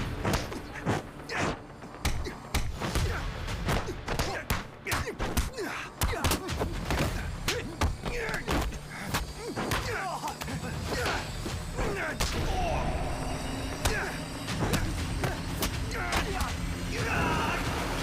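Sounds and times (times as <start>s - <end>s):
grunts and shouts: 0.3s - 18.0s.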